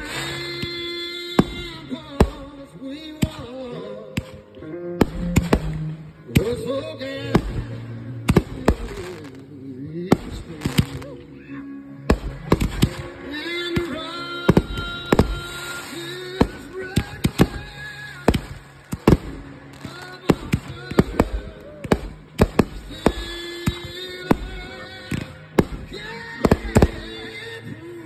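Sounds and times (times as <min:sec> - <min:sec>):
fireworks bangs and crackling: 0:00.0 - 0:04.4, 0:05.0 - 0:11.2, 0:12.1 - 0:28.0
music playing: 0:00.0 - 0:28.0.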